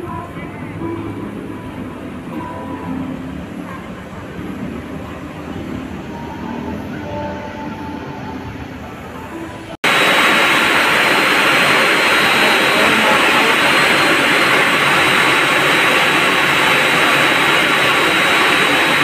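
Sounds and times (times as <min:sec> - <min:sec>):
machinery rushing roar: 0:00.0 - 0:19.0
thin high whine: 0:00.0 - 0:19.0.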